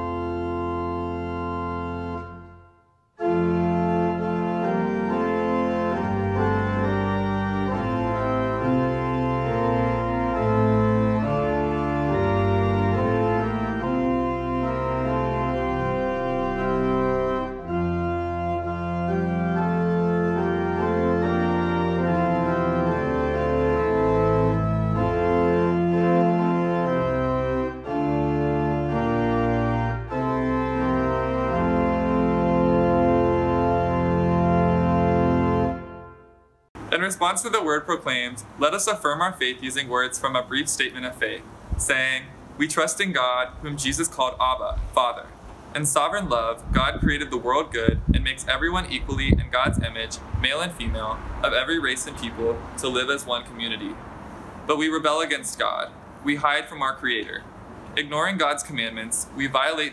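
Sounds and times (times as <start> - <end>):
organ playing sustained chords: 0.0 - 45.2, 45.9 - 59.9.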